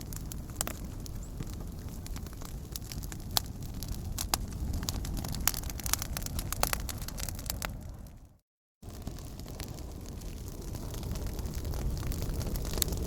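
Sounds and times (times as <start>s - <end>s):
fire crackling and popping: 0.0s - 13.0s
low fire rumble: 0.0s - 13.0s.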